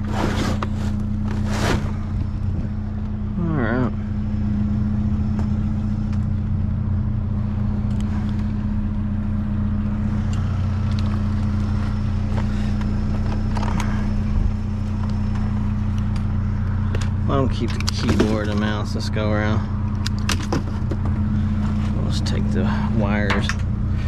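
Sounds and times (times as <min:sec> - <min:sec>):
vehicle engine low hum: 0:00.0 - 0:24.0.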